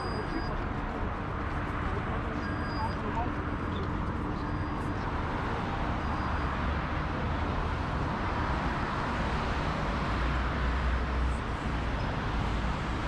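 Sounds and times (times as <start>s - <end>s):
car engines rumbling: 0.0s - 13.0s
tyres rumbling on road: 0.0s - 13.0s.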